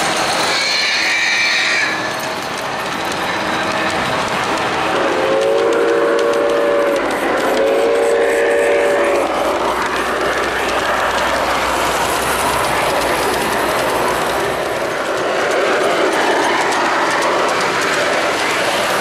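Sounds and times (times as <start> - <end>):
model trains rumbling on track: 0.0 - 19.0.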